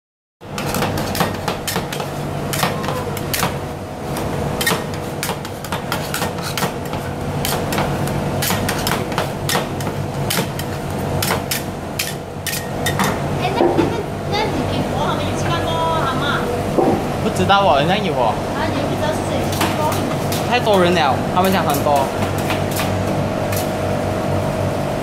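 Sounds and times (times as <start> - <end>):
steady low hum: 0.4 - 25.0.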